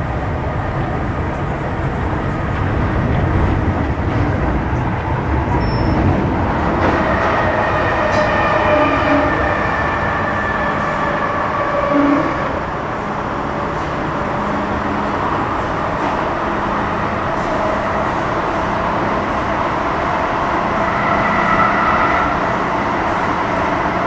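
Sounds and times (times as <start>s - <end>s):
rumble of train wheels on track: 0.0s - 24.0s.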